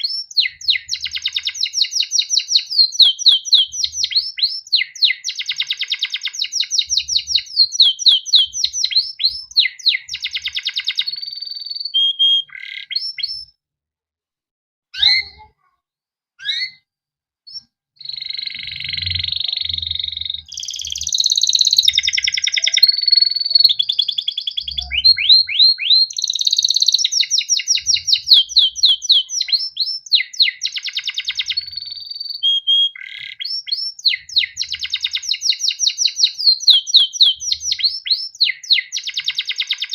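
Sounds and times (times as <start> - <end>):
canary singing trills: 0.0 - 13.6, 15.0 - 15.7, 16.4 - 16.9, 17.5 - 39.9.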